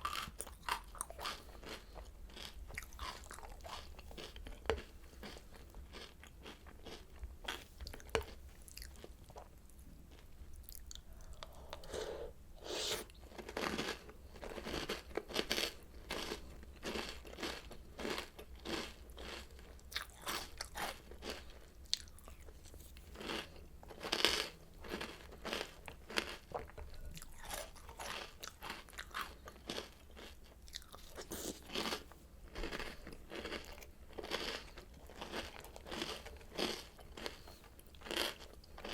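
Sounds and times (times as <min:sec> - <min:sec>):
cereal being chewed: 0:00.0 - 0:12.0, 0:12.7 - 0:38.9.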